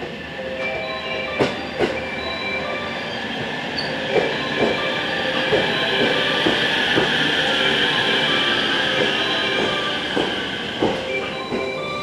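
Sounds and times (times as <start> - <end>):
train wheels clacking over rail joints: 0.0 - 2.2, 3.4 - 12.0
electric train motor whine: 0.0 - 12.0.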